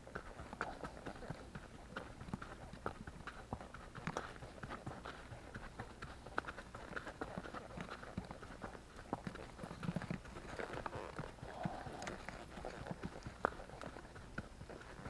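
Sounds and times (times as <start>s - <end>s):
horse hooves clopping on dirt: 0.0s - 15.0s.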